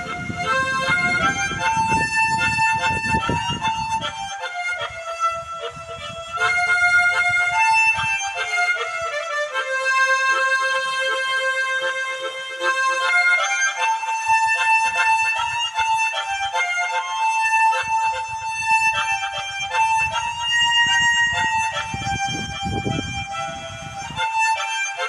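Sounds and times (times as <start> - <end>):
harmonica playing slow melody: 0.0 - 25.0.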